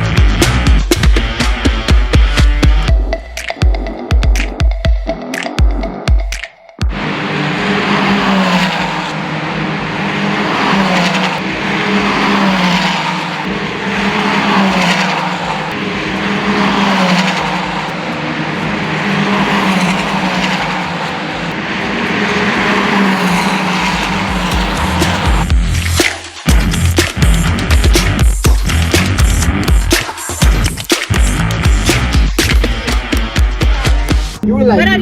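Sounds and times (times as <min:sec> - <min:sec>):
racing car engine droning: 0:00.0 - 0:06.2, 0:06.8 - 0:34.4.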